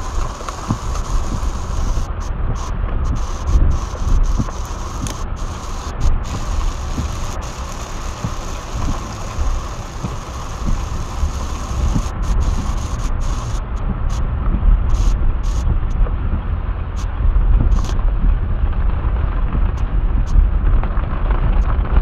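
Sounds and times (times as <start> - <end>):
rain hissing on windshield: 0.0 - 22.0
tyres rumbling on wet road: 0.0 - 22.0.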